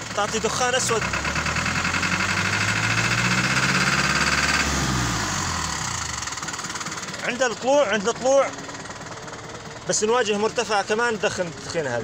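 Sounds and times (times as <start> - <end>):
diesel truck engine revving: 0.0 - 11.4.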